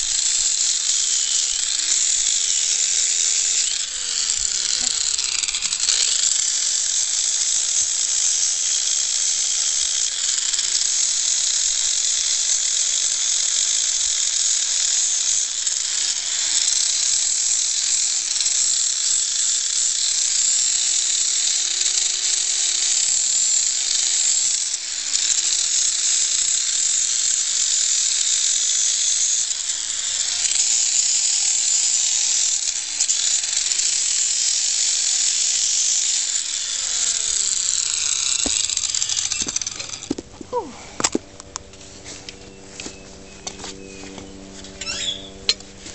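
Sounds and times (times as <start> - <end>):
electric grinder sanding hoof: 0.0 - 45.9.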